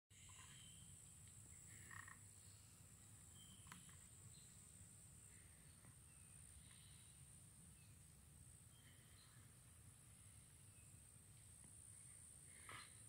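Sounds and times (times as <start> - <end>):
faint bird chirps: 0.1 - 13.0.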